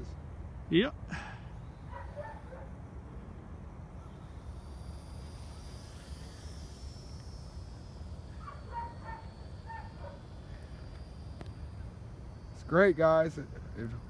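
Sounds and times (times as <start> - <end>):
small electric plane whine: 0.0 - 14.0
steady low rumble: 0.0 - 14.0.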